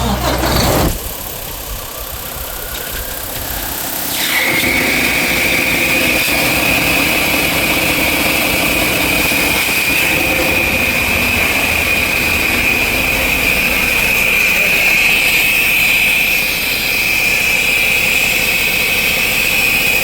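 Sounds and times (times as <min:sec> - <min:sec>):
diesel engine revving: 0:00.0 - 0:20.0
high engine whine: 0:00.0 - 0:20.0.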